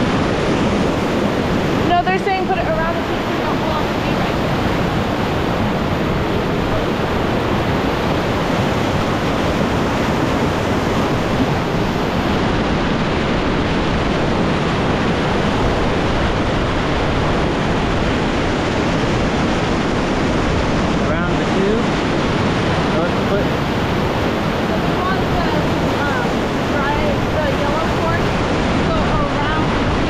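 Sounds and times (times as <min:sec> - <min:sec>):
river rapid rushing: 0:00.0 - 0:30.0.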